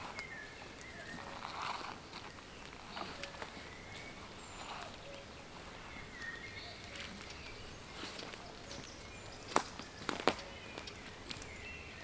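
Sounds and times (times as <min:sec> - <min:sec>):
faint bird calls: 0:00.0 - 0:12.0
footsteps through wet grass: 0:00.0 - 0:12.0.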